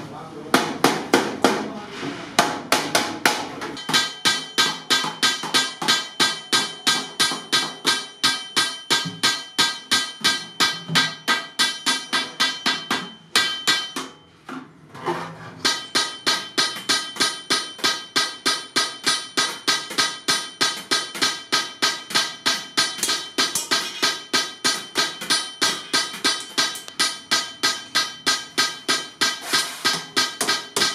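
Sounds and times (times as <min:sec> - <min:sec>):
hammer striking metal can: 0:02.4 - 0:14.2, 0:15.6 - 0:30.9.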